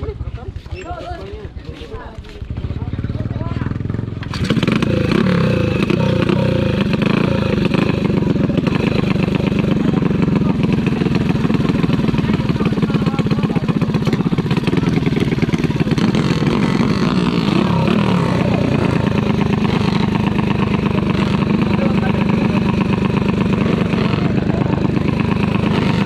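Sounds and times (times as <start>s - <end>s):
motorbike engine revving high: 2.6s - 26.0s.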